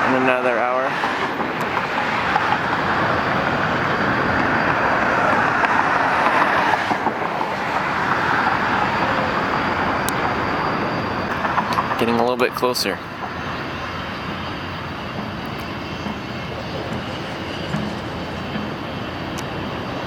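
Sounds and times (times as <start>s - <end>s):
faint high whine: 0.0s - 20.0s
road traffic roar: 0.0s - 20.0s.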